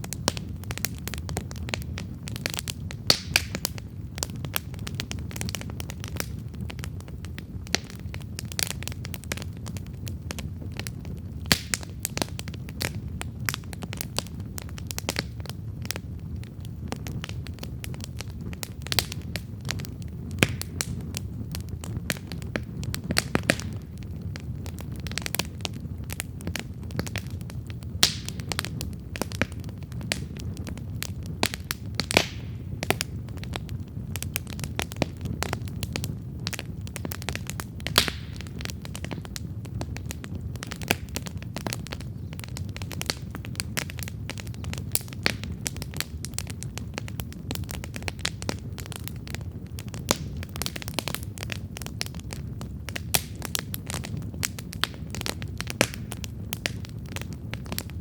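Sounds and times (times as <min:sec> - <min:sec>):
burning wood crackling and popping: 0:00.0 - 0:58.0
campfire flames rumbling: 0:00.0 - 0:58.0.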